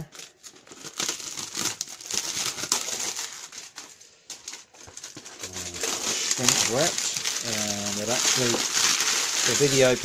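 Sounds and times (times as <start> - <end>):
plastic shrink wrap crinkling: 0.0 - 10.0.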